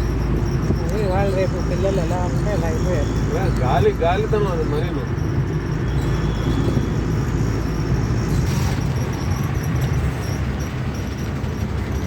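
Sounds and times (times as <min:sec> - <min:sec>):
auto-rickshaw engine running: 0:00.0 - 0:12.0
road and traffic noise: 0:00.0 - 0:12.0.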